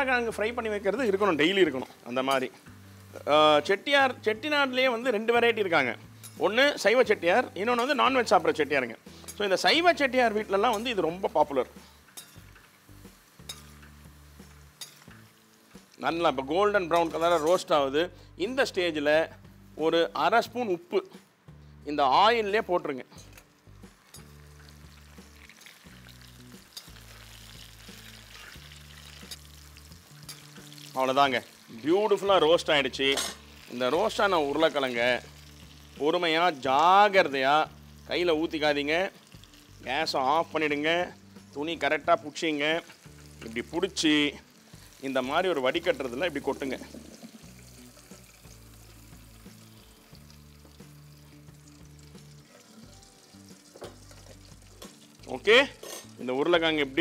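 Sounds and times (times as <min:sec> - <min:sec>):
oil sizzling in a pan: 0:00.0 - 0:20.5, 0:23.2 - 0:57.0.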